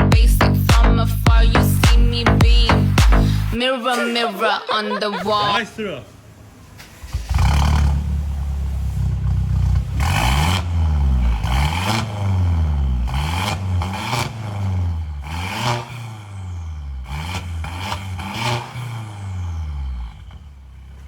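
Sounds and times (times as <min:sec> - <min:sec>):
car engine revving: 0:00.0 - 0:03.6, 0:05.5 - 0:21.0.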